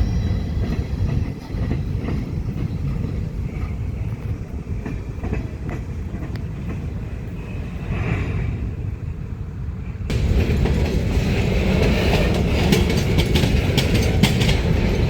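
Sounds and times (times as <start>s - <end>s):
train wheels clicking: 0.0s - 8.4s, 10.1s - 15.0s
freight train rumbling: 0.0s - 15.0s.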